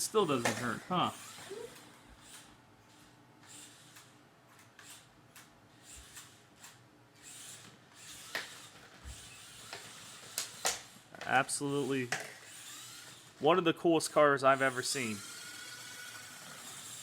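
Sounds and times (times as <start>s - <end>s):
toy car motor whirring: 0.0s - 13.5s, 14.1s - 17.0s.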